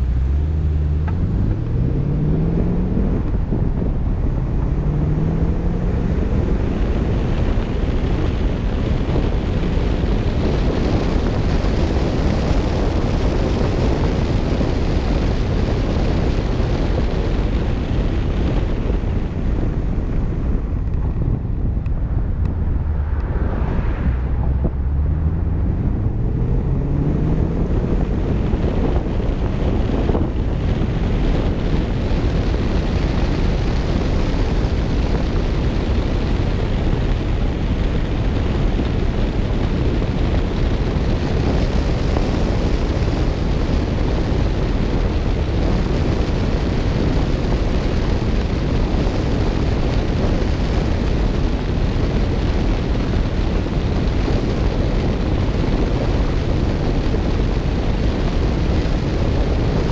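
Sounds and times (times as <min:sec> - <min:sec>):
low engine rumble: 0:00.0 - 0:59.9
tyres on the road: 0:00.0 - 0:59.9
wind buffeting a microphone: 0:00.0 - 0:59.9.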